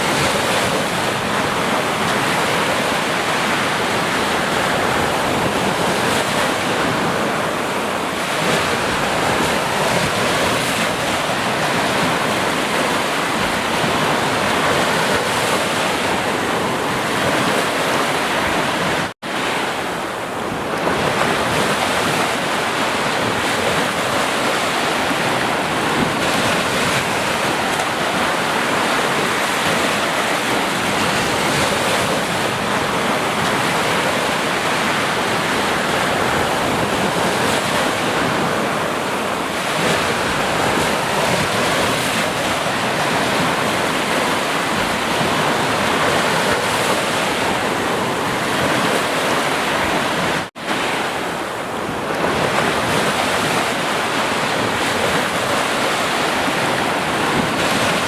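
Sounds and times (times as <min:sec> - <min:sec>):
sea waves washing onto shore: 0:00.0 - 0:58.0.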